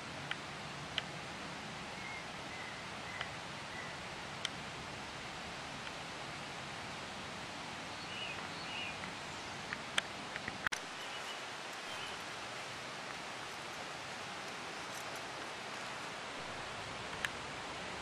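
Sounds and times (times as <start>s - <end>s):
outdoor hiss: 0.0s - 18.0s.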